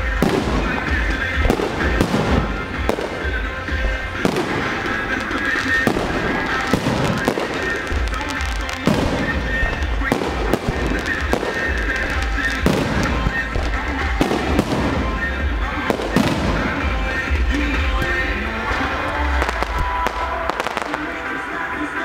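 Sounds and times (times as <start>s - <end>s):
fireworks bursting: 0.0s - 22.0s
music playing: 0.0s - 22.0s.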